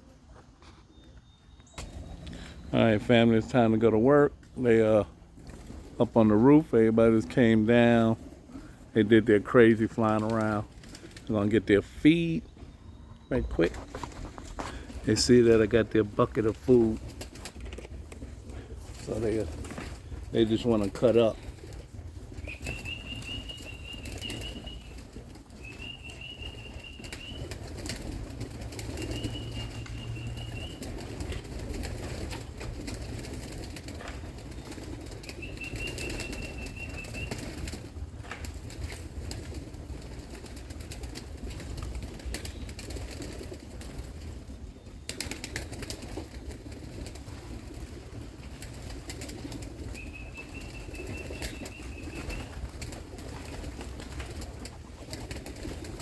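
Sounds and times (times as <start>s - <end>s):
pigeon wings flapping: 4.3s - 6.6s, 7.6s - 11.5s, 13.6s - 56.0s.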